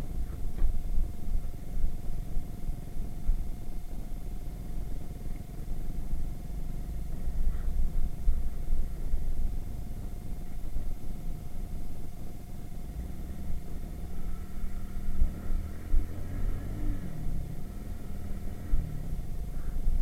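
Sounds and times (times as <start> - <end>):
low wind rumble: 0.0 - 20.0.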